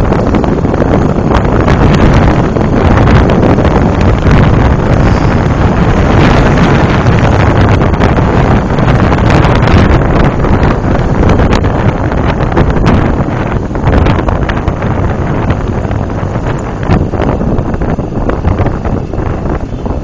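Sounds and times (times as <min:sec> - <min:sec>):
vehicle traffic noise: 0:00.0 - 0:20.0
wind buffeting microphone: 0:00.0 - 0:20.0.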